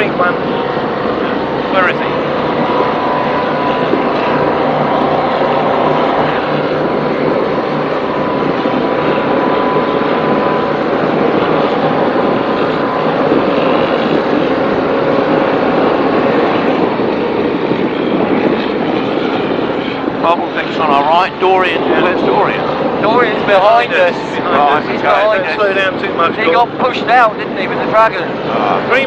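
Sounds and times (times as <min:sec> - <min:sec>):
powerboat engines droning: 0:00.0 - 0:29.0
wind and water rushing: 0:00.0 - 0:29.0.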